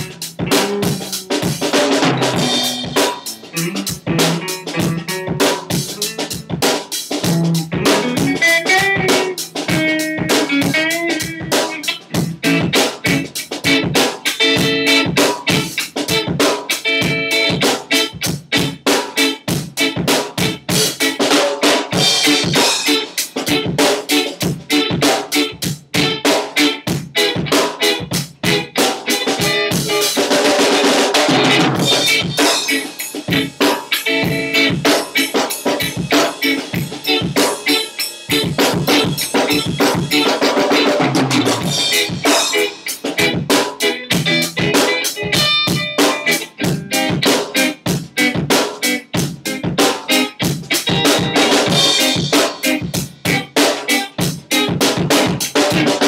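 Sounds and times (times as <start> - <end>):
drum kit fast groove: 0.0 - 56.0
electric guitar through amplifier: 0.0 - 56.0.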